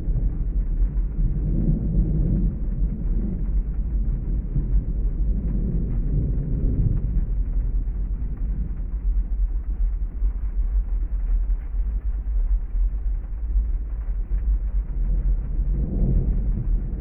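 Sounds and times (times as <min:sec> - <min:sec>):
deep thunder rumble: 0:00.0 - 0:17.0
heavy rain: 0:00.0 - 0:17.0.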